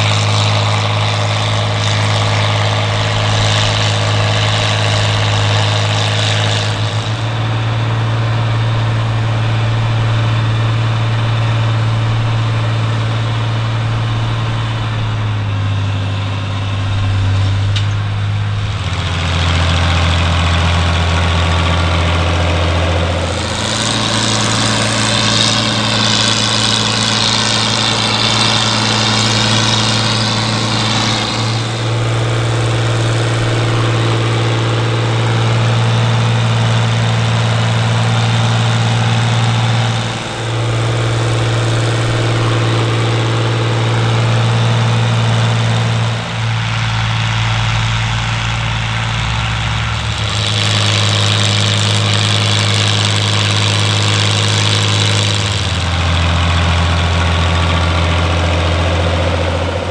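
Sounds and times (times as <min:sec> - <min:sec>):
high whine: 0:00.0 - 0:59.9
tractor diesel engines running: 0:00.0 - 0:59.9.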